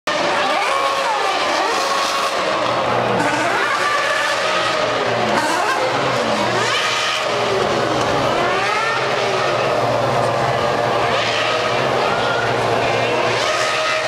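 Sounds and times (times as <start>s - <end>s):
race car engines accelerating: 0.1s - 14.0s.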